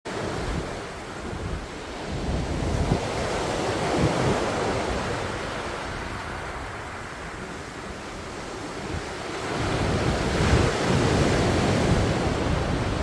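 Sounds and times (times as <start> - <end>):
sea waves crashing on shore: 0.1 - 13.0
wind buffeting microphone: 0.1 - 13.0.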